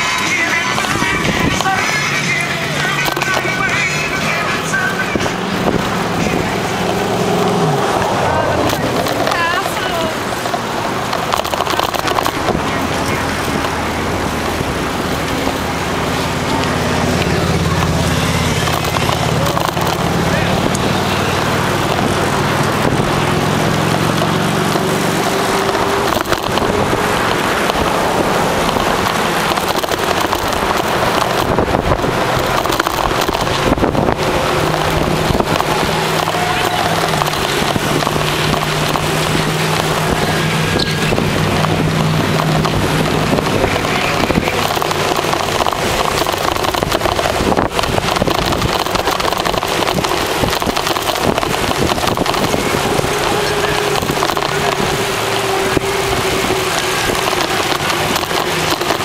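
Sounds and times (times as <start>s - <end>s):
bicycle road noise: 0.0s - 59.0s
wind rushing over microphone: 0.0s - 59.0s.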